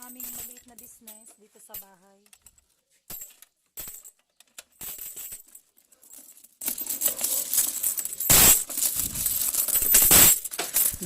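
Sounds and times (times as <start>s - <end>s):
coins clinking and jingling: 0.0s - 11.0s.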